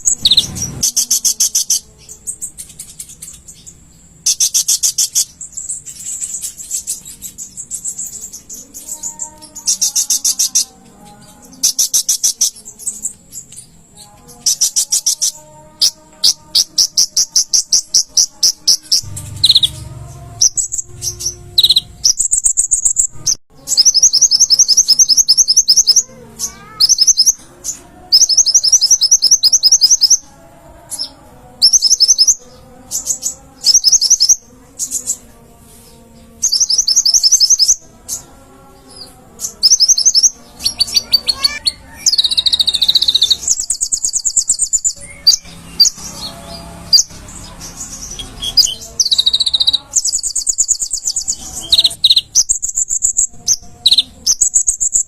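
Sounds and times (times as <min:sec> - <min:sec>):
songbird trilling chirps: 0:00.0 - 0:55.0.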